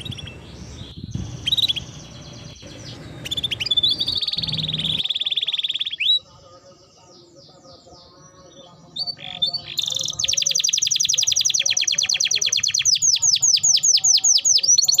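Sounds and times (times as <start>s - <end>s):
canary singing fast trills: 0.0s - 15.0s.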